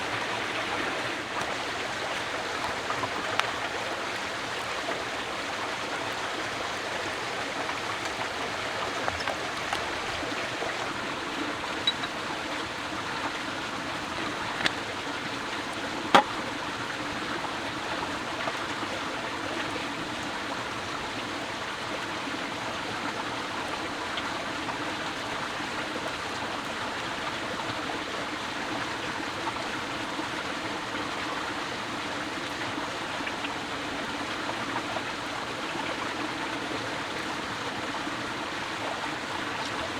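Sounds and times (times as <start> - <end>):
steady rushing water-like noise: 0.0 - 39.9.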